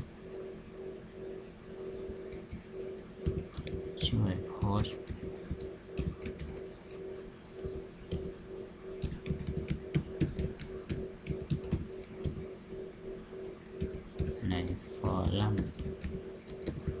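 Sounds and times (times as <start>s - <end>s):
faint steady hum: 0.0s - 17.0s
computer keyboard typing: 1.8s - 12.6s, 13.6s - 17.0s.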